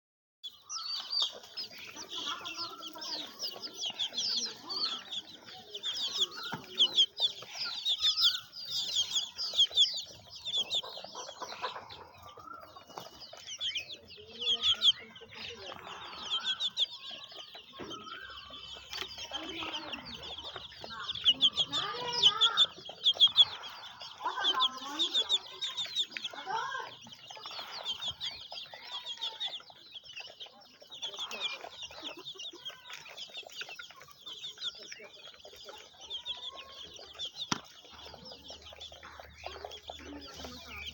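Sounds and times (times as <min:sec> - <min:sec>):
chickens clucking: 0:00.4 - 0:40.9
chicks peeping: 0:00.4 - 0:40.9.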